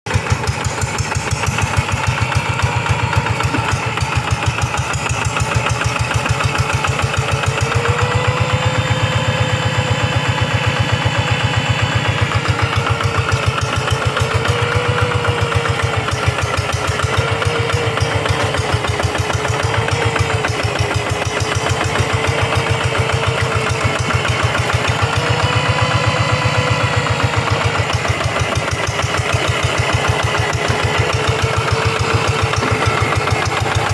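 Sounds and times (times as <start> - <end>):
hand tractor engine running: 0.1 - 33.9.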